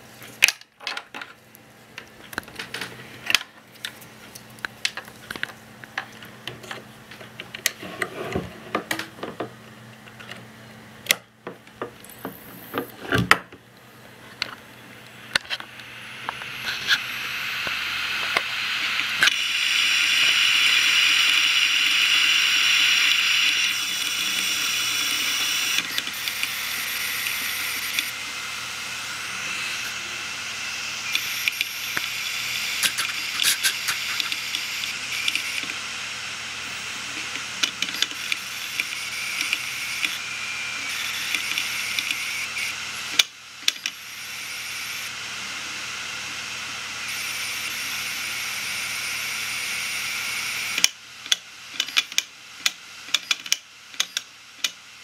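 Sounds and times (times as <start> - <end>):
hard drive platter whine: 0.0 - 55.0.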